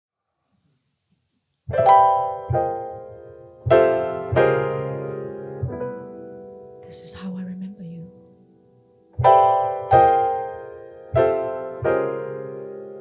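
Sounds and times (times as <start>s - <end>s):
slow piano chords: 1.7s - 13.0s.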